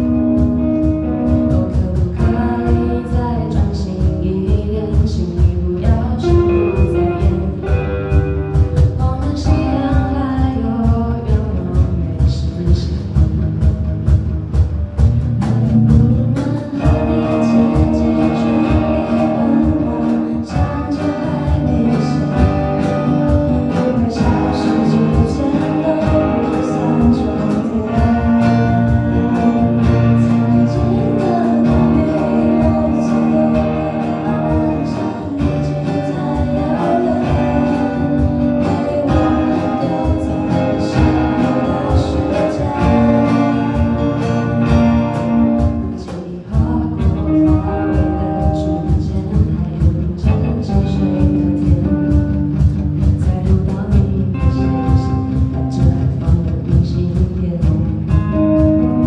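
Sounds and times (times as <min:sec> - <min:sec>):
live pop-rock band: 0:00.0 - 0:59.0.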